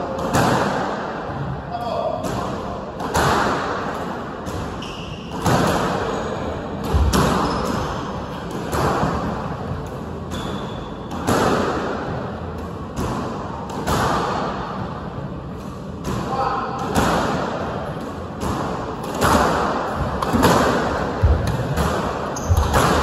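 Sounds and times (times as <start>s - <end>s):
squash ball hits echoing: 0.0s - 23.0s.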